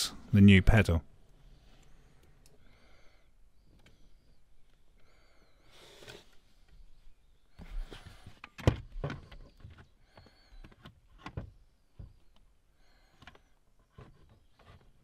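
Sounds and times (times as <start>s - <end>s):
birds chirping faintly: 1.2s - 8.4s, 9.0s - 15.0s.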